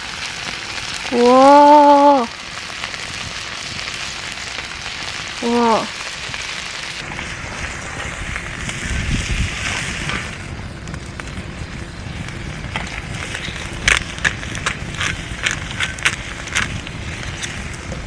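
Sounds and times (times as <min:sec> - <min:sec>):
campfire burning: 0:00.0 - 0:18.0
fire crackling and popping: 0:00.0 - 0:18.0.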